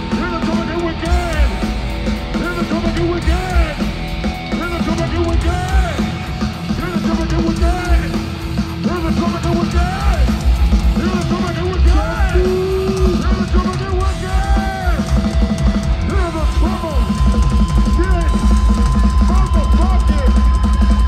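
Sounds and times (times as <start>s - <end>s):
distorted electric guitars: 0.0s - 21.0s
heavy drums: 0.0s - 21.0s
shouted rap vocals: 0.0s - 21.0s.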